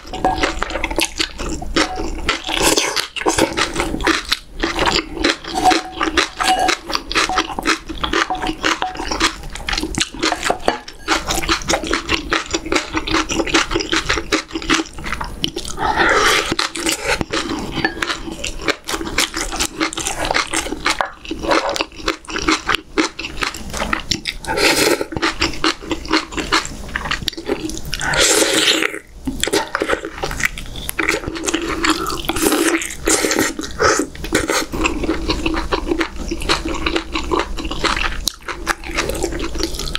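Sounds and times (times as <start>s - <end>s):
wet chewing and lip smacking: 0.1s - 28.0s, 29.3s - 39.9s.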